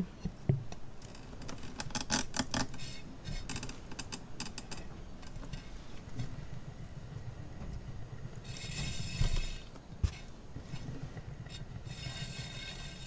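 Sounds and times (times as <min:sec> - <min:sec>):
low handling noise: 0:00.0 - 0:13.0.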